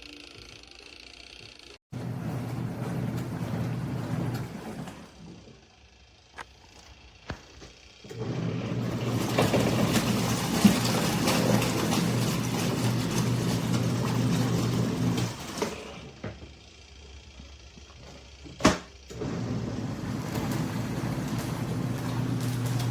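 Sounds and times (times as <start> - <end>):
washing machine motor humming: 0.0 - 22.9.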